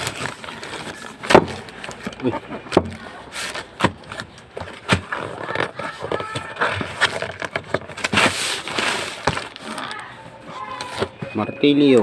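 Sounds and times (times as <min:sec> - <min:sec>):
packaging scraping and crackling: 0:00.0 - 0:12.0.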